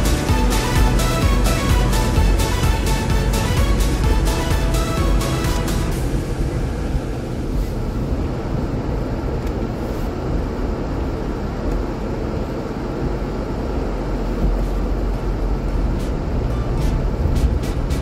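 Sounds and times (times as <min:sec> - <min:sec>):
car road and tyre rumble: 0:00.0 - 0:18.0.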